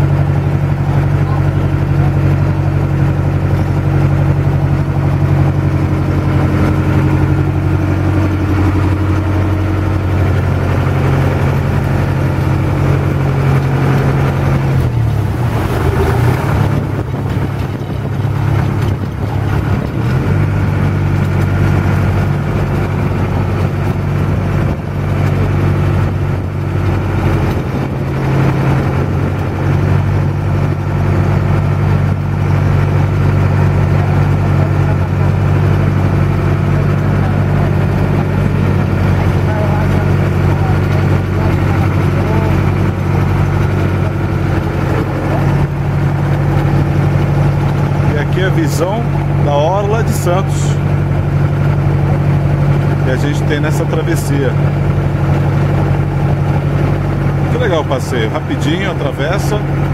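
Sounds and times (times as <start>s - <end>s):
boat engine humming: 0.0s - 59.9s
water rushing along hull: 0.0s - 59.9s.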